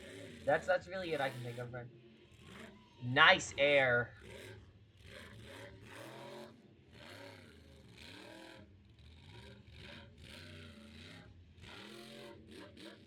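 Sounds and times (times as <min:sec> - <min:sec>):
faint monster truck engine revving: 0:00.0 - 0:13.0.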